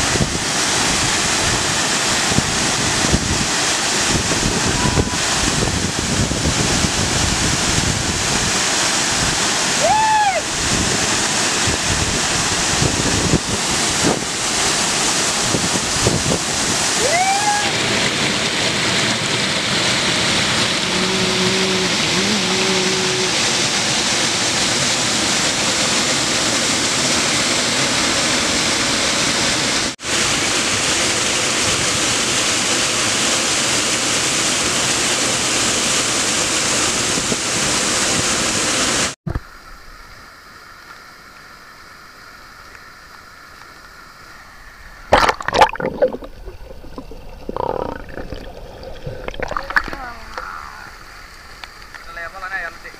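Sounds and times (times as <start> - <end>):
waterfall splashing into pool: 0.0 - 52.9.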